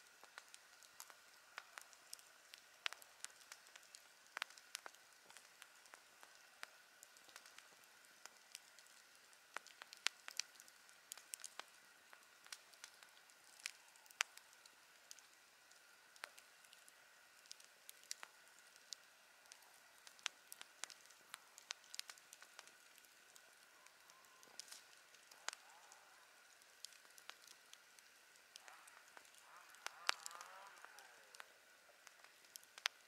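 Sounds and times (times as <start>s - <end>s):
campfire crackling: 0.0s - 33.0s
faint steady hiss: 0.0s - 33.0s.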